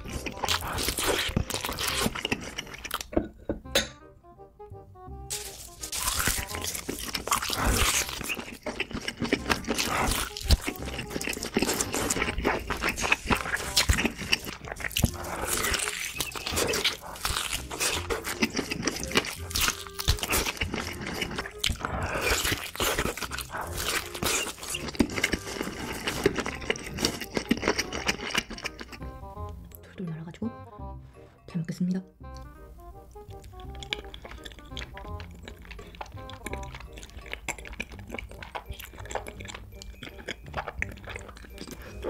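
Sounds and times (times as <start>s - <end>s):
close-up chewing: 0.0s - 3.4s, 5.3s - 29.8s, 32.3s - 42.0s.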